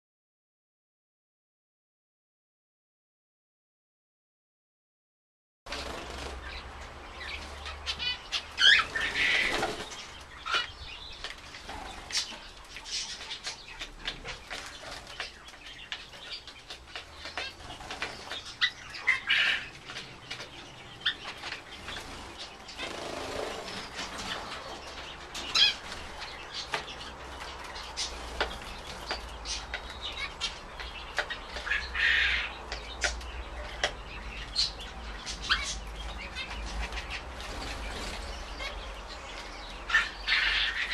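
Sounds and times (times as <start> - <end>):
birds pecking and hopping in dish: 5.7 - 40.9
finches calling: 6.4 - 40.9.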